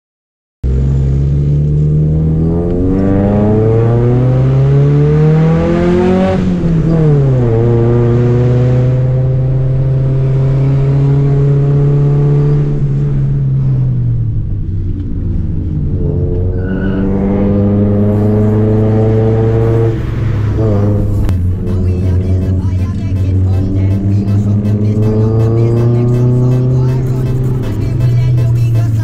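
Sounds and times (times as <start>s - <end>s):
car engine revving: 0.6s - 29.0s.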